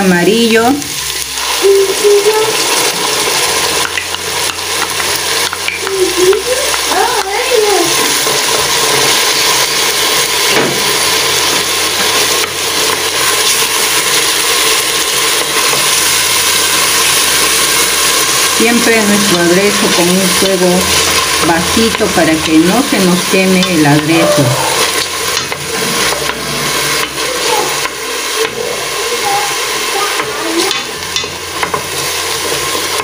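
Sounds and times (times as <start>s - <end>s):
onion sizzling in hot oil: 0.0s - 33.0s.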